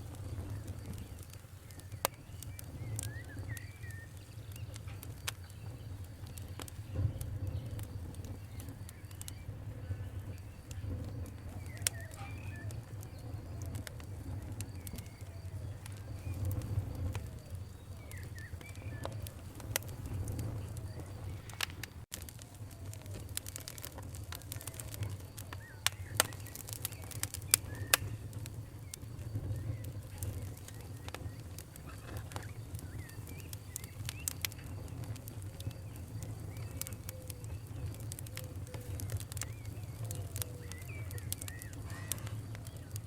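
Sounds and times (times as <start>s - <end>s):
birds chirping: 0.0s - 22.0s, 22.8s - 43.0s
campfire crackling and popping: 0.0s - 43.0s.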